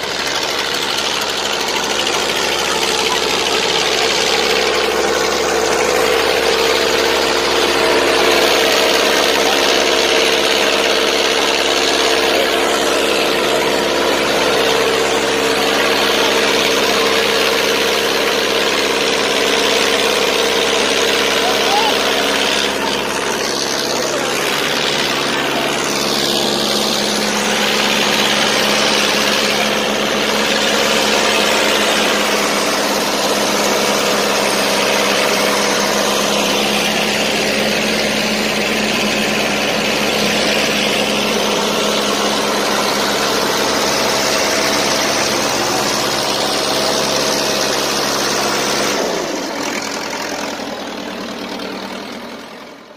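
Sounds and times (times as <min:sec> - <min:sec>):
tractor diesel engines under load: 0:00.0 - 0:52.9.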